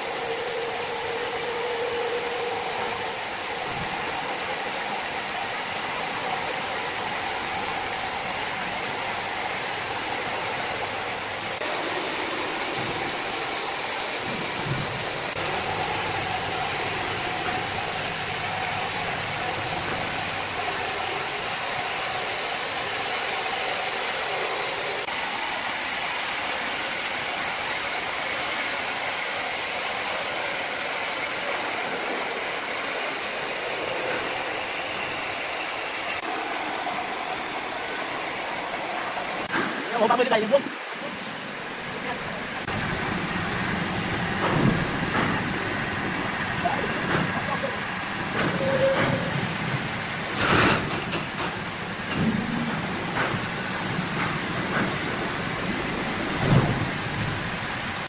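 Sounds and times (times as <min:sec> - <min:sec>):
band sawmill cutting a log: 0:00.0 - 0:58.0.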